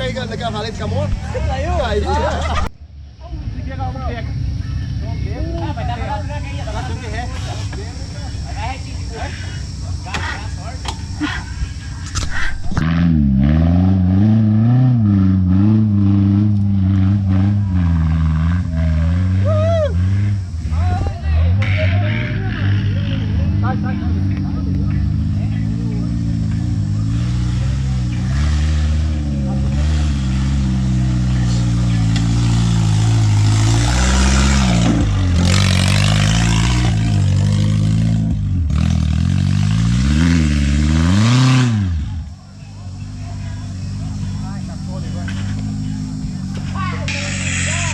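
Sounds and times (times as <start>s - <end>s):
buggy engine at low revs: 0.0s - 47.9s.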